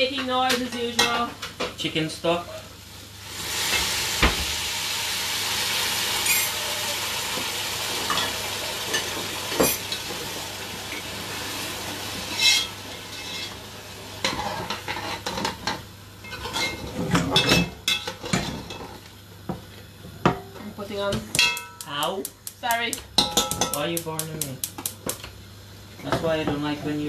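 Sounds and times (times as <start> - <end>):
stock sizzling in hot pot: 0.7 - 20.4, 21.0 - 27.0.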